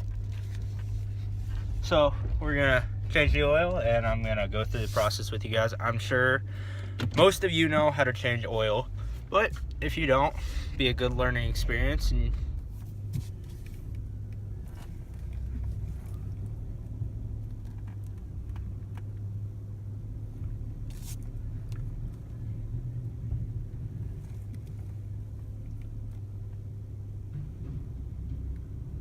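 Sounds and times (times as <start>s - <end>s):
engine rumbling: 0.0s - 29.0s.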